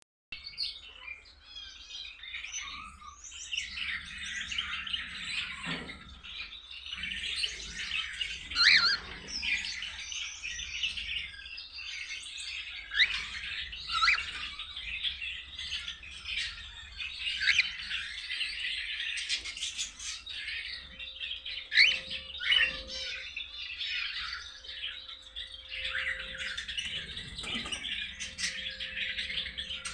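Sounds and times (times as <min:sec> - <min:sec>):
cockatiels chirping and chattering: 0:00.6 - 0:29.9.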